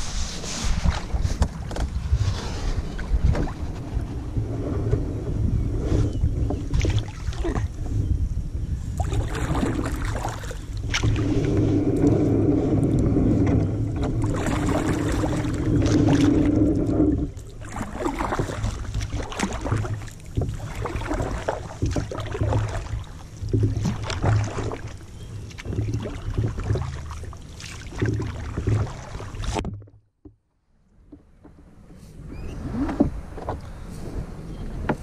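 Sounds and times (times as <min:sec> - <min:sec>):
paddle blades splashing: 0:00.0 - 0:08.0, 0:08.8 - 0:35.0
water washing along hull: 0:00.0 - 0:30.4, 0:31.0 - 0:35.0.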